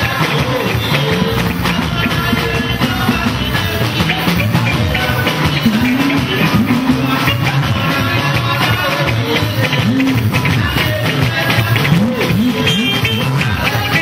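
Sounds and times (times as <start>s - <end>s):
bass line: 0.0s - 14.0s
drum kit beat: 0.0s - 14.0s
electric guitars: 0.0s - 14.0s.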